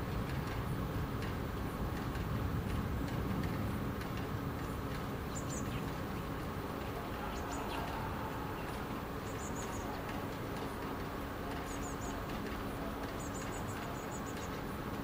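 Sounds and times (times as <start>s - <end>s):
low hum of city ambience: 0.0s - 15.0s.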